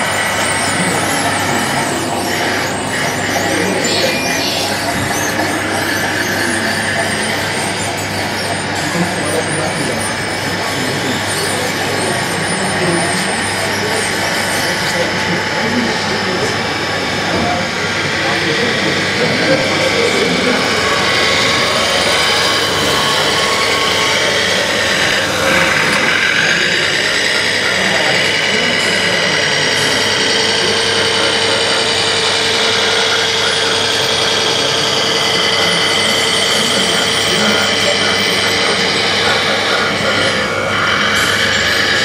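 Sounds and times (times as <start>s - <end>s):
electric motor and gearbox whining: 0.0s - 42.0s.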